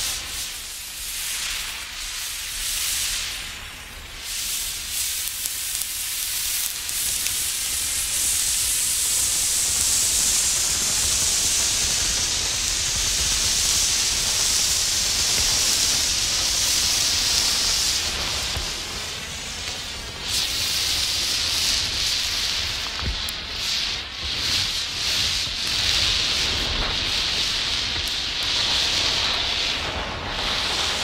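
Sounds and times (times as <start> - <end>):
road flare hissing: 0.0 - 31.0.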